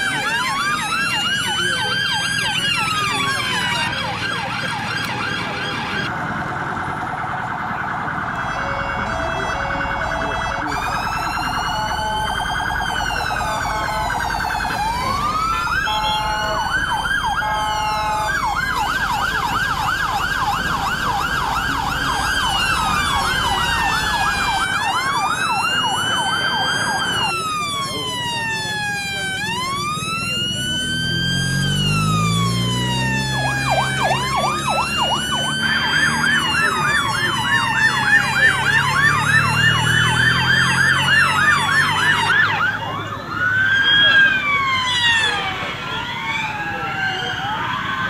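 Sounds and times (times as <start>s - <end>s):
fast siren yelp: 0.0s - 6.1s, 6.7s - 48.0s
police sirens wailing: 0.0s - 48.0s.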